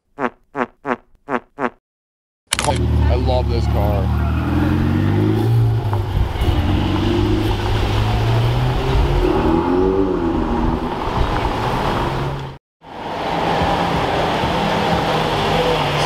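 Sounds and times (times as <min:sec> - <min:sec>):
sports car engine pulling away: 0:02.7 - 0:16.0.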